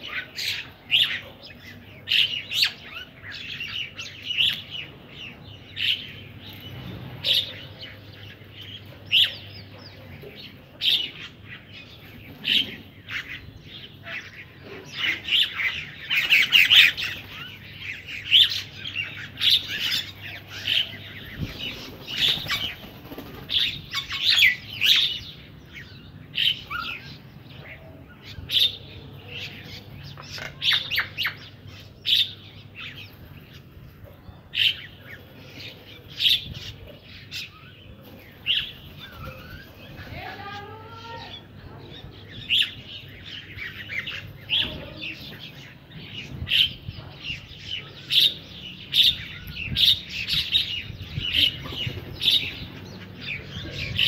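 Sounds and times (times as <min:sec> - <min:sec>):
birds calling and chattering: 0:00.0 - 0:54.0.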